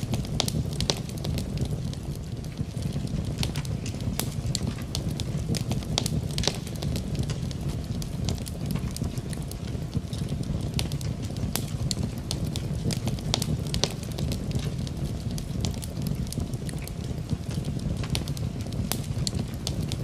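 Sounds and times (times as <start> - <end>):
rain falling: 0.0 - 20.0
wood fire crackling: 0.0 - 20.0.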